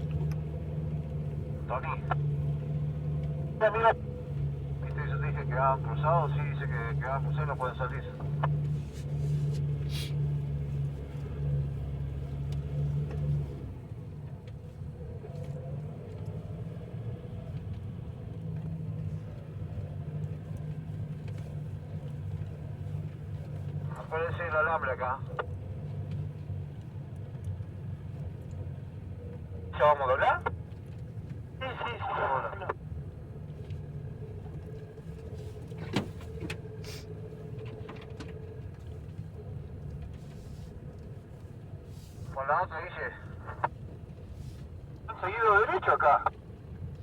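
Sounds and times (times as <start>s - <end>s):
vehicle engine drone: 0.0s - 47.0s.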